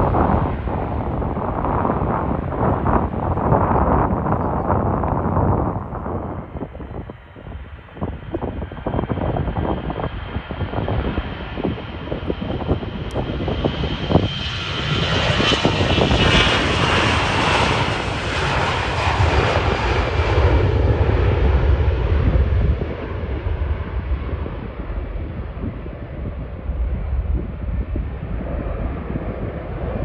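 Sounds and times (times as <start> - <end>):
jet airliner taking off: 0.0 - 30.0.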